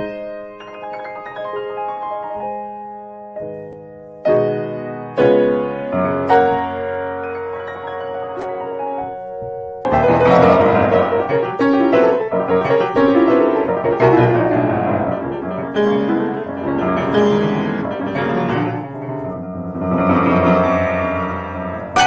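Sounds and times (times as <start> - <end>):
solo piano playing: 0.0 - 22.0.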